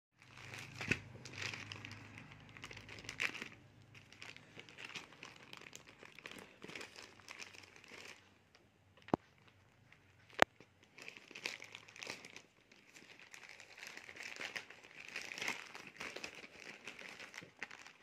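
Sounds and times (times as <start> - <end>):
plastic mailer bag crinkling: 0.2 - 8.4, 10.3 - 18.0.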